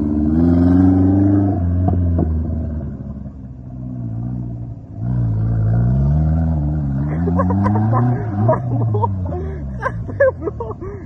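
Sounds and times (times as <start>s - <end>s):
vehicle engine revving and idling: 0.0s - 11.0s.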